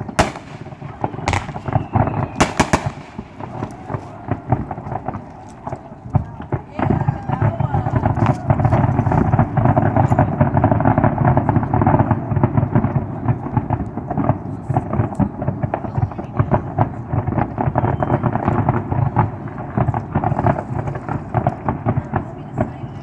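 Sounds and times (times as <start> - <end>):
fireworks popping and banging: 0.0 - 23.0.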